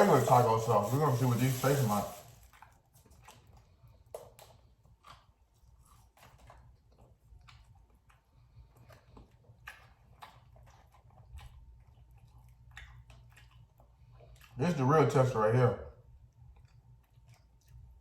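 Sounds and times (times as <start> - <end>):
mouth chewing food: 0.0 - 18.0.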